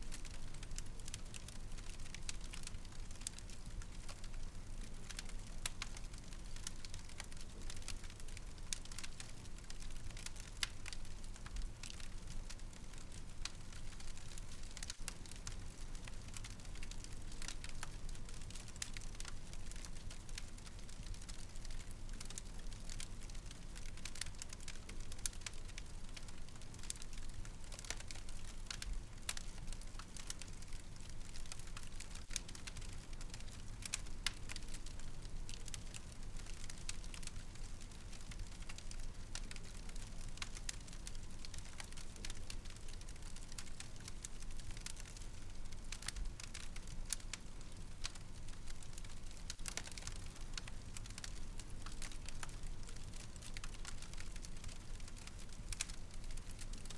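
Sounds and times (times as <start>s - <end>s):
wood fire burning: 0.0s - 56.9s
fire crackling and popping: 0.1s - 56.9s.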